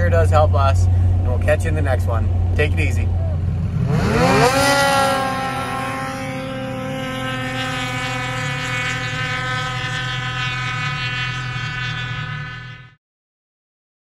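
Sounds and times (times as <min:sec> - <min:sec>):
snowmobile engine at high revs: 0:01.3 - 0:13.0.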